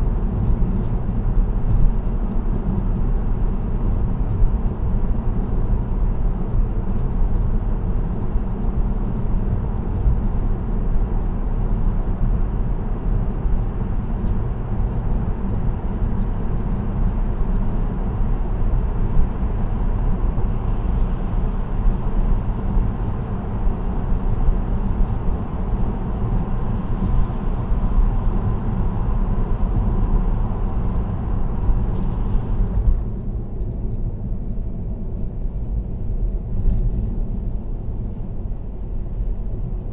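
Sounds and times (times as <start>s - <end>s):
road and tyre noise: 0.0s - 39.9s.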